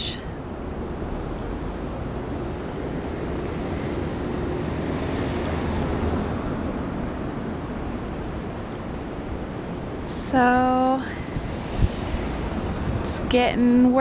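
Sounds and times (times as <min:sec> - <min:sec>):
cars on snowy street: 0:00.0 - 0:14.0
wind blowing across microphone: 0:00.0 - 0:14.0.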